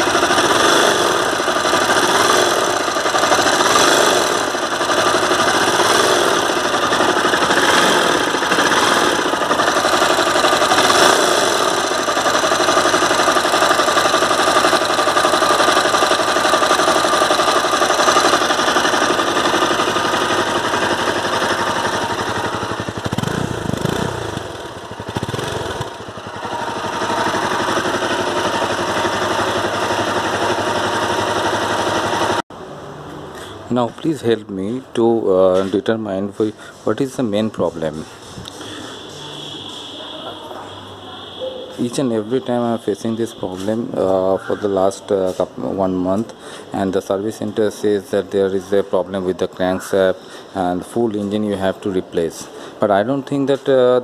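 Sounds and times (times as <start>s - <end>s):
motorcycle engine with mechanical noise: 0.0s - 54.0s.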